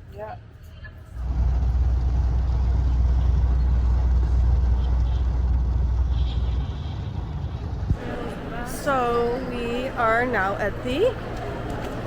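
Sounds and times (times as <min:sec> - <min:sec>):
moving vehicle rumble: 0:00.4 - 0:12.0.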